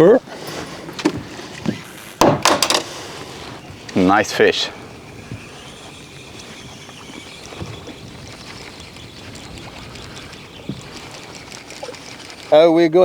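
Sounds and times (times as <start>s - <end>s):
water noise around boat: 0.0s - 13.0s
wind: 0.0s - 13.0s.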